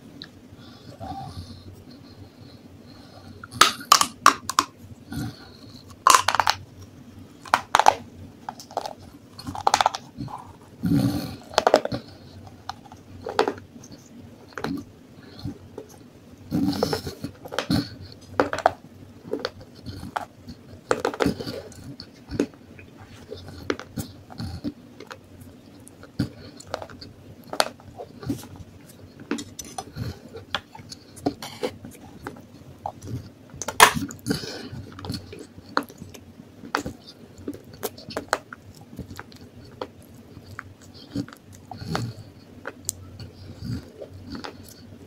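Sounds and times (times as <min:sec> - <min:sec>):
quiet chewing: 0:00.2 - 0:45.0.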